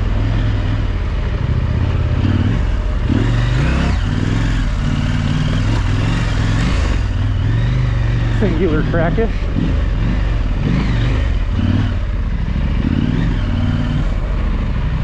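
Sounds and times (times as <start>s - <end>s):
motorcycle engine running: 0.0s - 15.0s
road noise: 0.0s - 15.0s.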